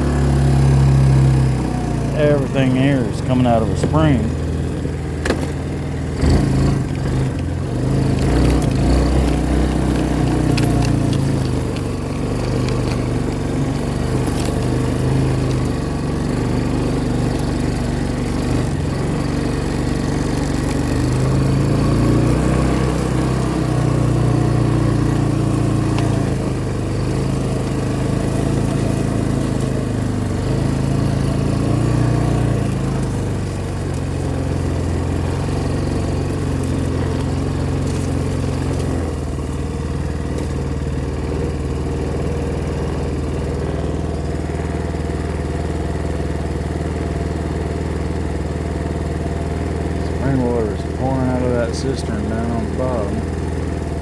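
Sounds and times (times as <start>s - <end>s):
small off-road vehicle engine: 0.0s - 54.0s.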